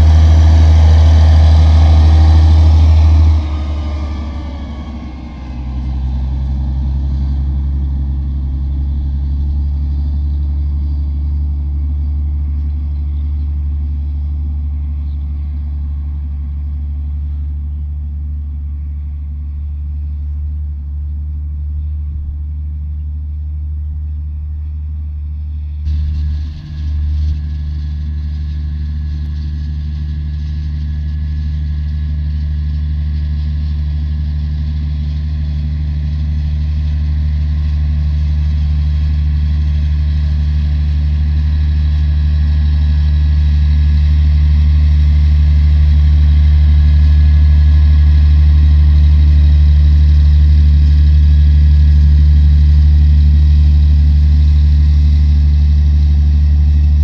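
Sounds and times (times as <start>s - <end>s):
vehicle engine droning: 0.0s - 57.0s.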